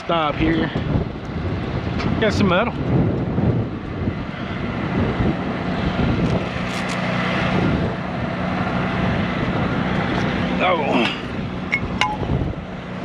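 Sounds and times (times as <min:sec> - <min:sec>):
constant rushing noise: 0:00.0 - 0:13.0
vehicle engine humming: 0:00.0 - 0:13.0.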